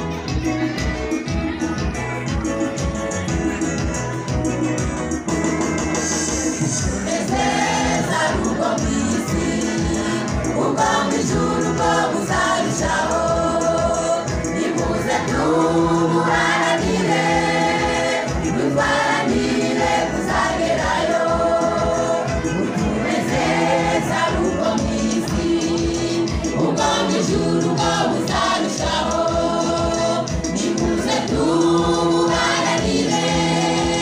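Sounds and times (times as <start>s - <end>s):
choir singing gospel song: 6.0s - 34.0s.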